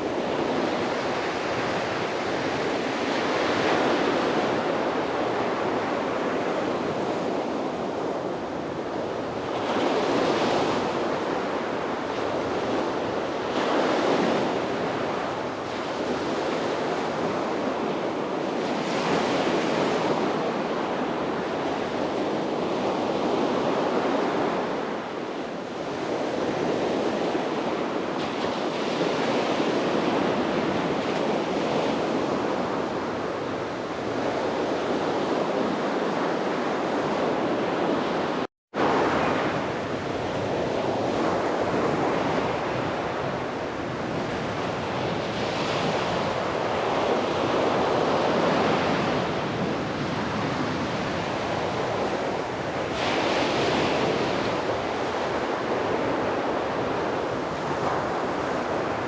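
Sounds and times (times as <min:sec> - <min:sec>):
sea waves breaking on beach: 0:00.0 - 0:59.0
wind on microphone: 0:00.0 - 0:59.0.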